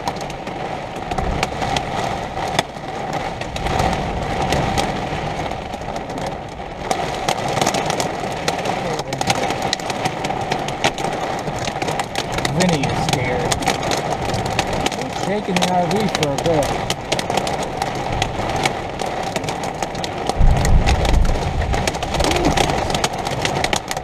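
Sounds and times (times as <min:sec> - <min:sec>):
heavy rain rushing: 0:00.0 - 0:24.0
raindrops ticking close by: 0:00.0 - 0:24.0.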